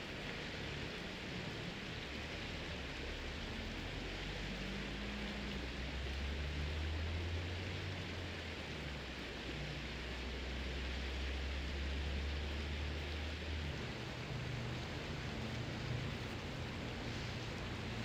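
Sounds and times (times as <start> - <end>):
outdoor hiss: 0.0 - 18.0.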